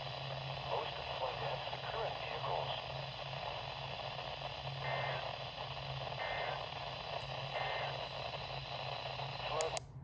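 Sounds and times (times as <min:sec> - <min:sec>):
radio static: 0:00.0 - 0:09.8
low hum: 0:00.0 - 0:10.0.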